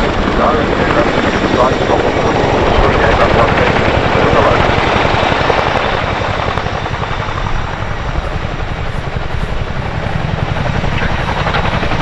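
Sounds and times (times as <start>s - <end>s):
helicopter rotors beating: 0.0s - 12.0s
rotor and engine rush: 0.0s - 12.0s.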